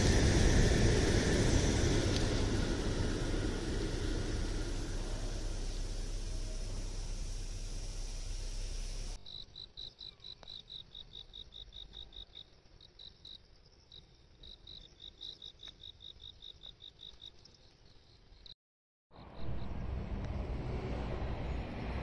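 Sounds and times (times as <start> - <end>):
insect chirping: 0.0 - 18.6, 19.2 - 19.9
steady outdoor noise: 0.0 - 22.0.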